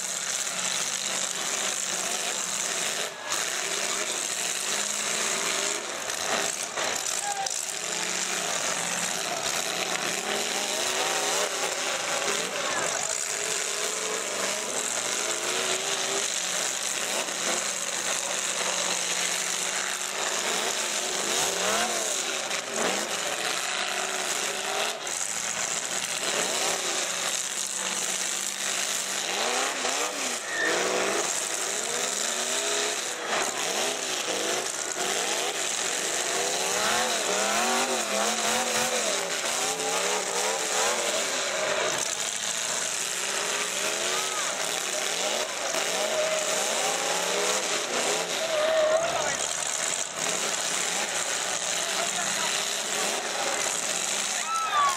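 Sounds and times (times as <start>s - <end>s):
car engines revving hard: 0.0s - 54.9s
cars ramming each other: 0.2s - 54.9s.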